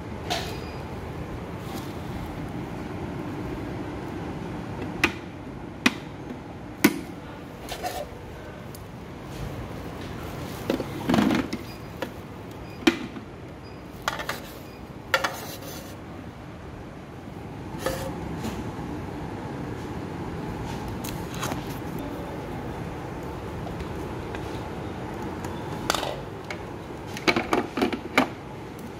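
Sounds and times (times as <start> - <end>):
steady background hum: 0.0 - 28.9.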